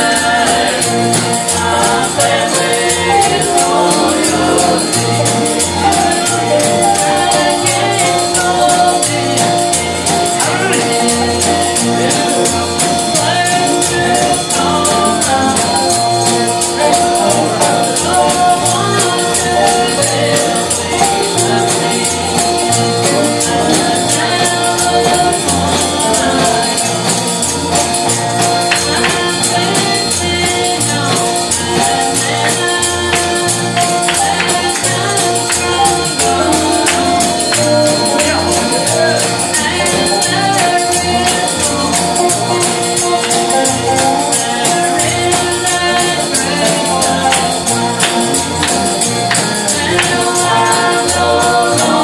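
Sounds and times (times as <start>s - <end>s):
gospel singing: 0.0s - 52.0s
pulsing bass line: 0.0s - 52.0s
tambourine shaking: 0.0s - 52.0s.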